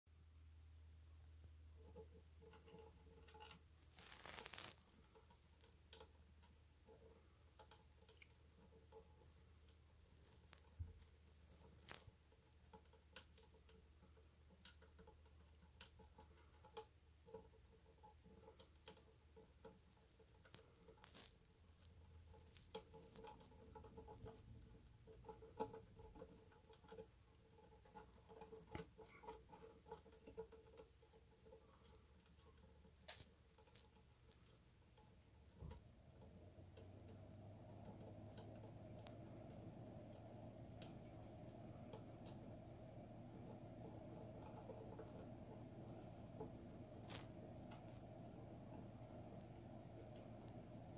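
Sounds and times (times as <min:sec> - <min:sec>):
mouse chewing cardboard: 0:01.8 - 0:50.9.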